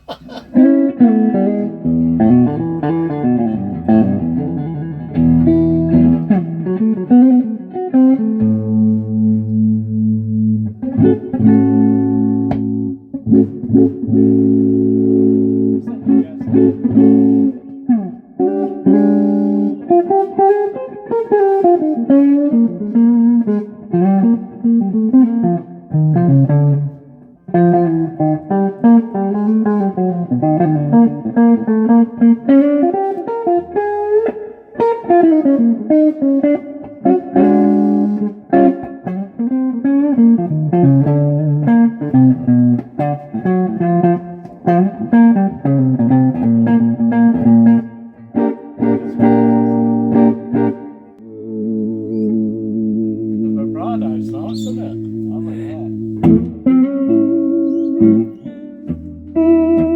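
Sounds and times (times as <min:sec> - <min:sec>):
electric guitar lead with vibrato: 0:00.0 - 0:59.9.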